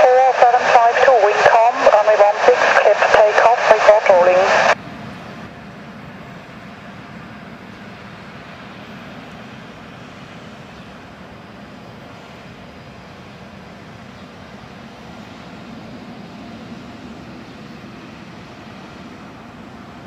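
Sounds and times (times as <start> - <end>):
distant jet engines rumbling: 0.0 - 20.0.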